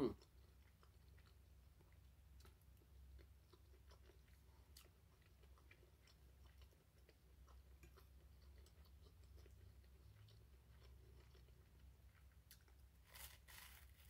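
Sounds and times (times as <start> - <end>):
low steady hum: 0.0 - 14.0
faint chewing: 0.1 - 14.0.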